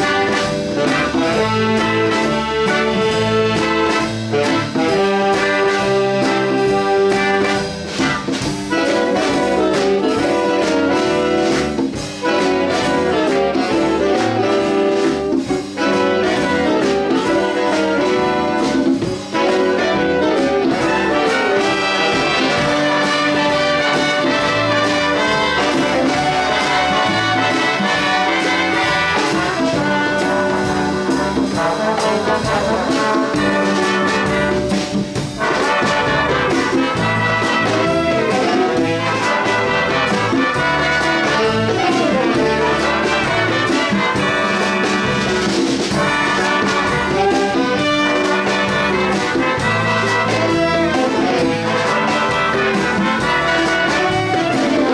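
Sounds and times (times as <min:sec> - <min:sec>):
big band brass chords: 0:00.0 - 0:54.9.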